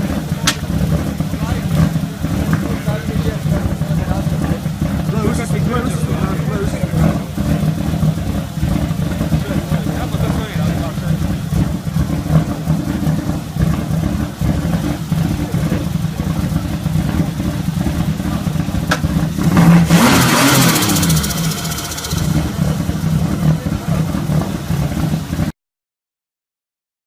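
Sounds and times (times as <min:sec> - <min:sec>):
car engine idling and revving: 0:00.0 - 0:25.5.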